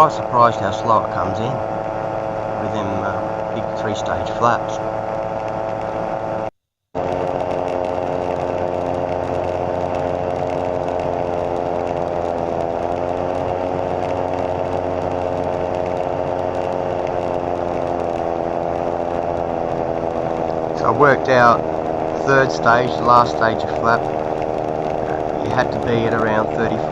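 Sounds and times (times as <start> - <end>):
aircraft engine droning: 0.0 - 26.9.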